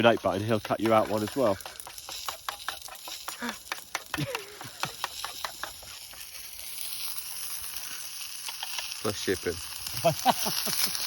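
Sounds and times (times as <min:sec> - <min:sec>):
food frying in a pan: 0:00.0 - 0:11.0.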